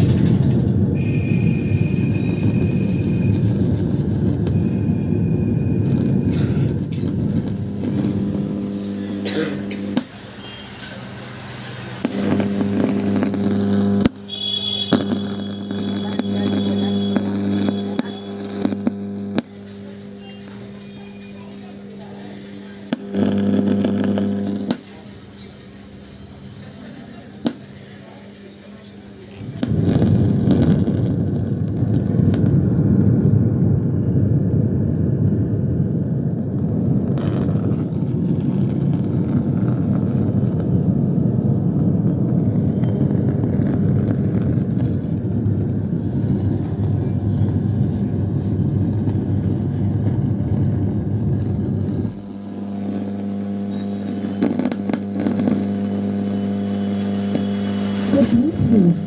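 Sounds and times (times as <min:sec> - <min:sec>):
amplifier speaker hum: 0:00.0 - 0:59.0.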